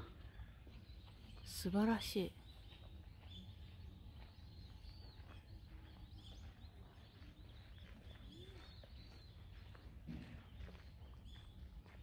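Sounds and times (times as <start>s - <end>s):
faint high bird chirps: 0.0s - 11.7s.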